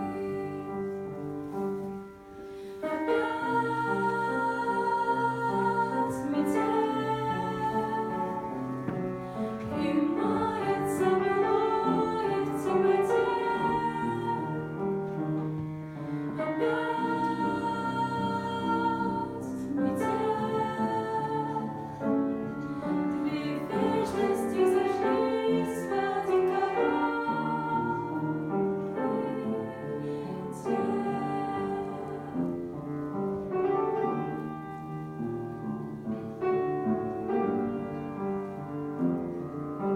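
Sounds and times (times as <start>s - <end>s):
women singing in harmony: 0.0s - 2.0s, 2.6s - 34.9s
piano accompaniment: 0.0s - 39.9s.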